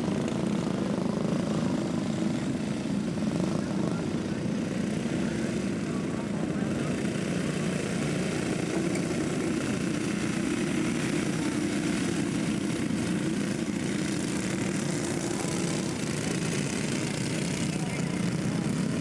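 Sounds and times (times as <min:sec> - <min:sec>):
kart engines droning: 0:00.0 - 0:19.0.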